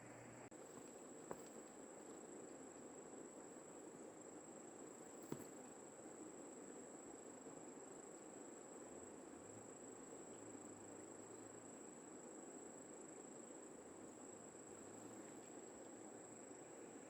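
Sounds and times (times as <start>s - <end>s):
low background hiss: 0.0s - 17.0s
insects trilling: 0.6s - 17.0s.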